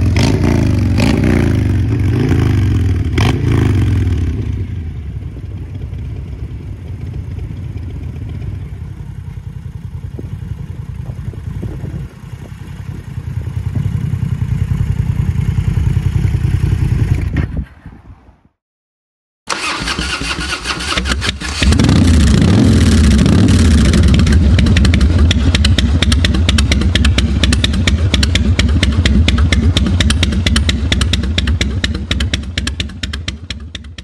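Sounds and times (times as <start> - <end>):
motorcycle engine revving and idling: 0.0 - 17.6, 19.5 - 34.0.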